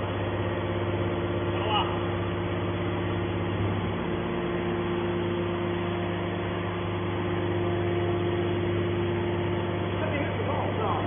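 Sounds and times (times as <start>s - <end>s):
hydraulic power pack humming: 0.0s - 11.0s.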